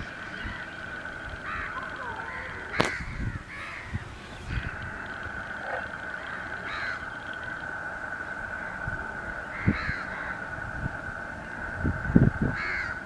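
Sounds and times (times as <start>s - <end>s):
crows cawing: 0.0s - 13.0s
steady high whine: 0.0s - 13.0s.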